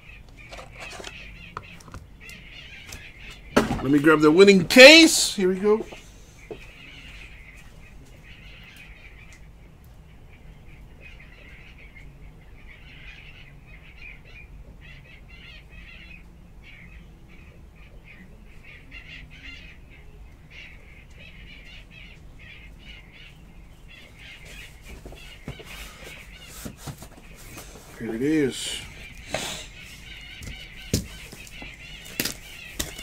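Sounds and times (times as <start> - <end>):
birds chirping: 0.0 - 33.0
steady low hum: 0.0 - 33.0.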